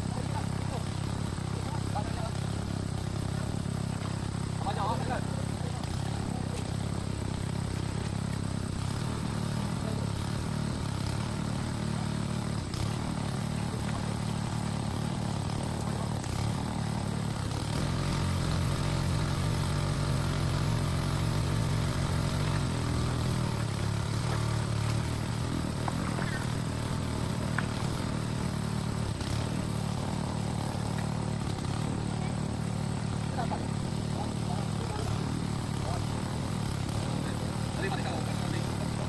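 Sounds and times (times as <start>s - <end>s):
water pump engine running: 0.0s - 39.0s.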